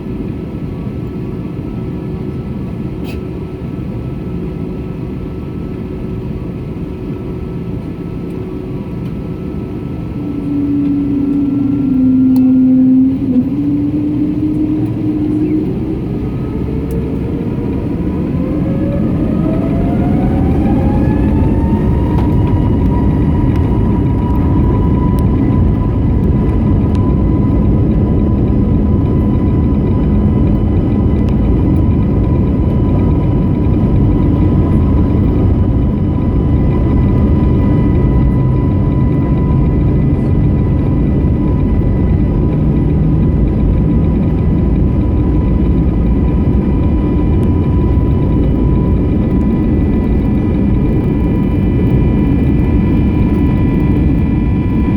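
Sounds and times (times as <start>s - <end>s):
jet engines spooling up: 6.4s - 54.9s.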